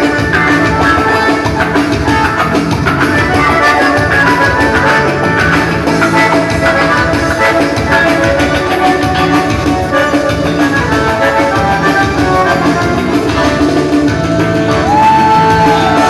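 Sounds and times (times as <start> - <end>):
live band dance music: 0.0 - 16.0.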